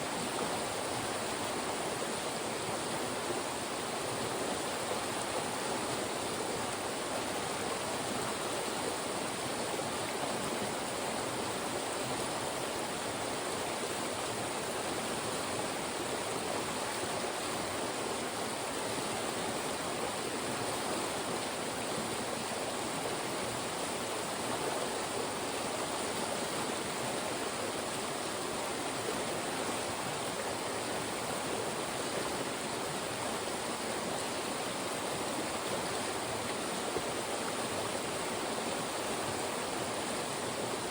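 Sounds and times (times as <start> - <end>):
stream rushing between rocks: 0.0 - 40.9.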